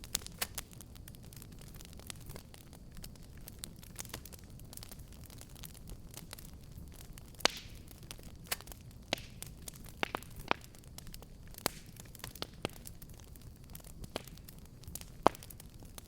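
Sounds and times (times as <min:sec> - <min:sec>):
fire crackling and popping: 0:00.0 - 0:16.0
low rumble and hiss: 0:00.0 - 0:16.0.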